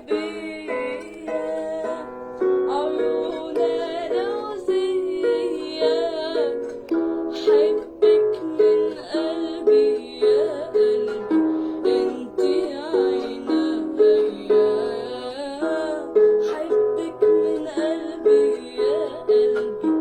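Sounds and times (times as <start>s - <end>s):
plucked string instrument: 0.0s - 20.0s.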